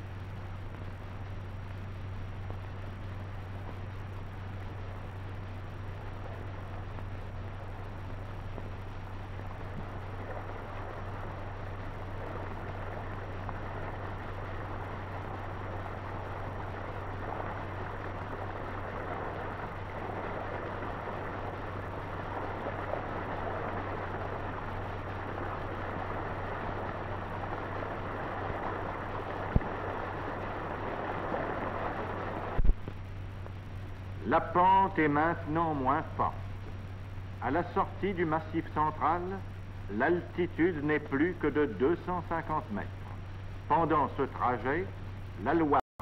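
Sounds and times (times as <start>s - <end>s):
film soundtrack hiss and hum: 0.0s - 45.8s.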